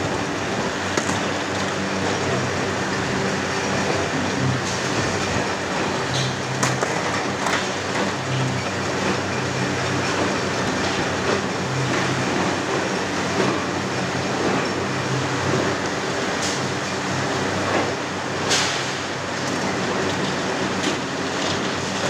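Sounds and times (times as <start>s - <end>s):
industrial machinery noise: 0.0s - 22.0s.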